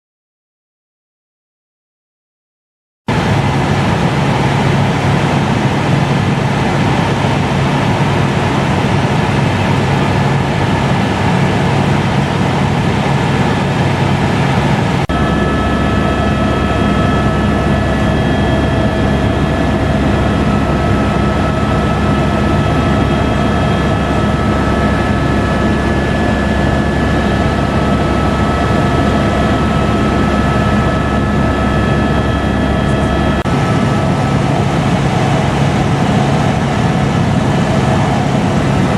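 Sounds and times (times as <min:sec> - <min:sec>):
helicopter rumbling and whining: 0:03.1 - 0:38.9.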